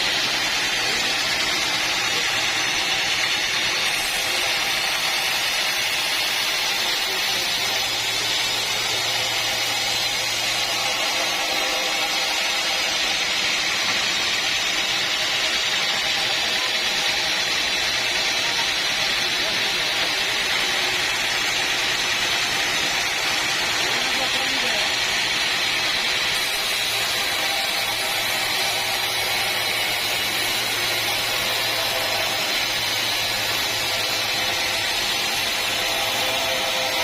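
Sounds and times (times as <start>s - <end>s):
sawmill machinery running: 0.0s - 37.0s.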